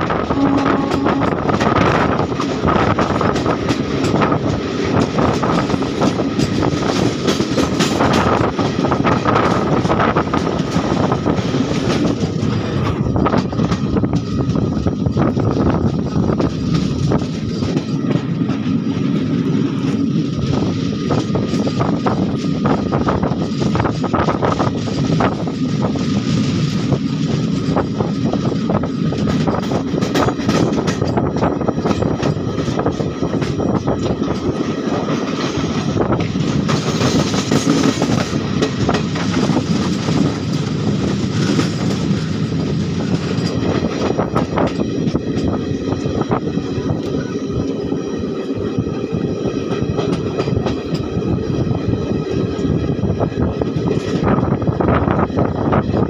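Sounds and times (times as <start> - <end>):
sharp rail clicks: 0.0 - 56.0
train wheels rumbling on rails: 0.0 - 56.0.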